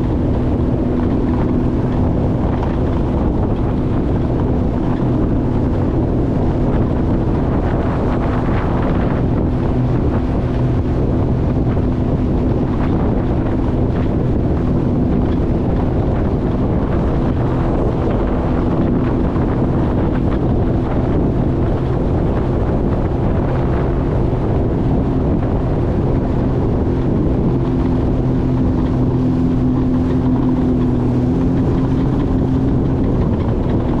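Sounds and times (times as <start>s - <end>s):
jet ski engine running: 0.0s - 34.0s
wind buffeting microphone: 0.0s - 34.0s.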